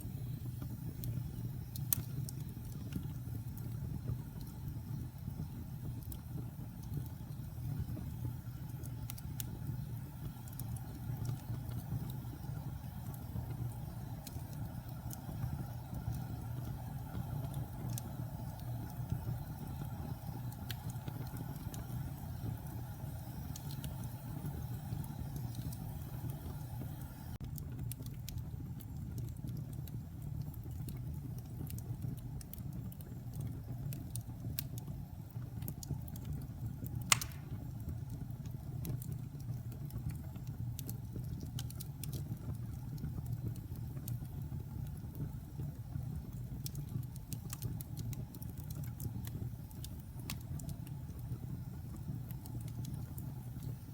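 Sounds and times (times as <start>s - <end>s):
wood fire rumbling: 0.0s - 53.9s
logs crackling and popping: 0.1s - 53.9s.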